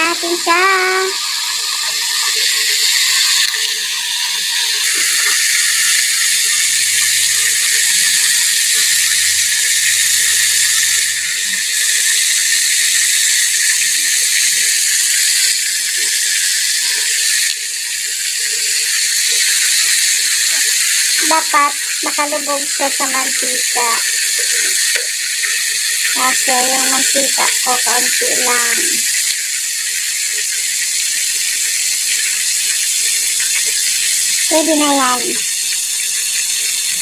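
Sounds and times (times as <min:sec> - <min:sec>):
chicken sizzling in hot oil: 0:00.0 - 0:37.0.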